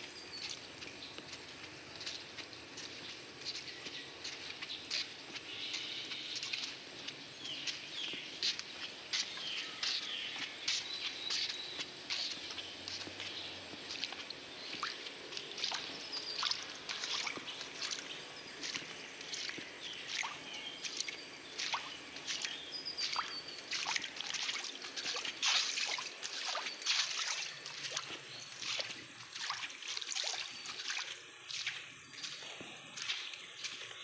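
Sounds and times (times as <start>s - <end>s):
wet concrete squelching and scraping: 0.4s - 33.9s.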